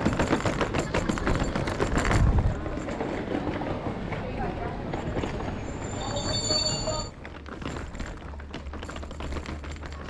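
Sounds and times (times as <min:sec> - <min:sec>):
footsteps: 0:00.0 - 0:10.0.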